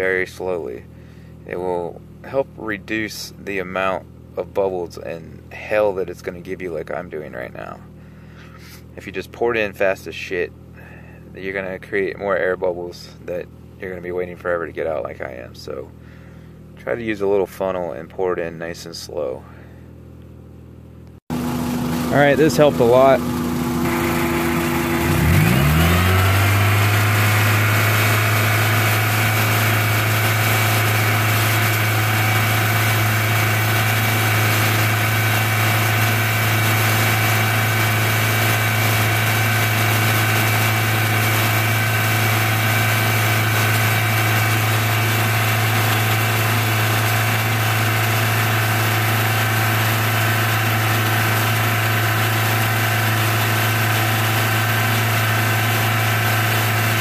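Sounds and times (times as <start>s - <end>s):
car engine running at raised speed: 0.0s - 57.0s.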